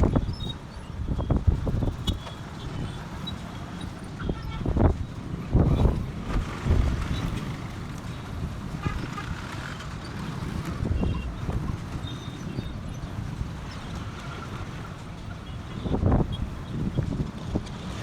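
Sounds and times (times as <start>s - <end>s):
distant traffic: 0.0s - 18.0s
wind buffeting microphone: 0.0s - 18.0s.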